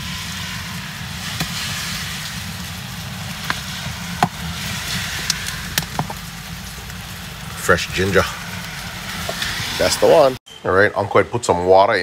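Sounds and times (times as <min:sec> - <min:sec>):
low rumble: 0:00.0 - 0:10.4
steady rain hiss: 0:00.0 - 0:12.0.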